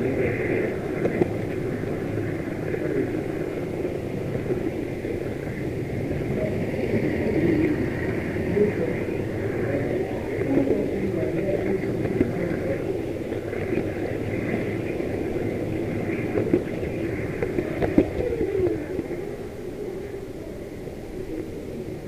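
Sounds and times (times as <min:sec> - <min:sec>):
model train rumble and whir: 0:00.0 - 0:22.0.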